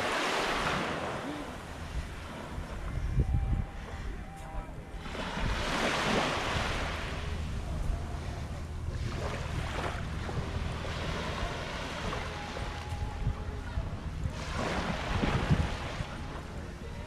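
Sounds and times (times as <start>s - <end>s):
small waves washing up beach: 0.0s - 4.2s, 4.8s - 13.6s, 14.2s - 17.0s
wind rumble on microphone: 0.0s - 17.0s.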